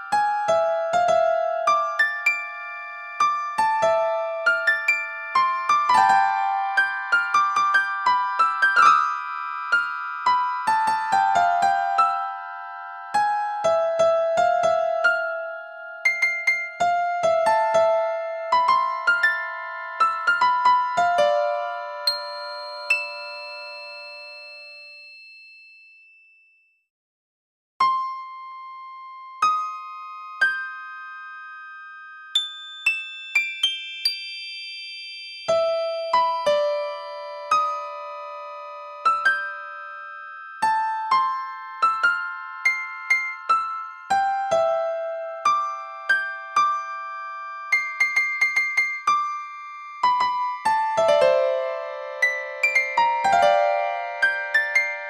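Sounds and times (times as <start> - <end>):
slow piano-like keyboard melody: 0.0 - 25.2, 27.8 - 34.1, 35.5 - 55.0.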